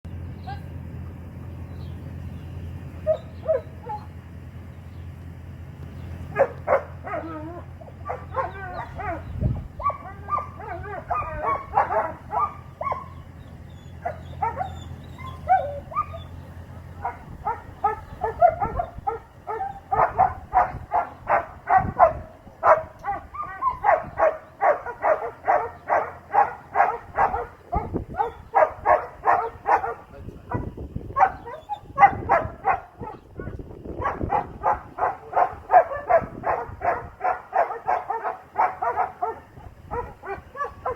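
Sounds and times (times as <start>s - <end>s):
low steady hum: 0.1s - 40.9s
dog barking and yelping: 3.0s - 4.2s, 6.3s - 16.4s, 17.0s - 40.9s
dog whining: 3.0s - 4.2s, 6.4s - 16.4s, 17.0s - 30.0s, 31.2s - 40.9s.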